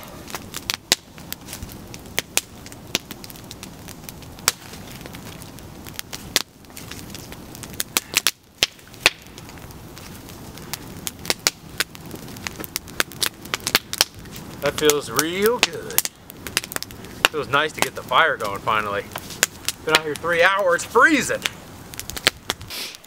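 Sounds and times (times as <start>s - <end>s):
campfire crackling and popping: 0.0s - 23.0s
steady background hiss: 0.0s - 23.0s.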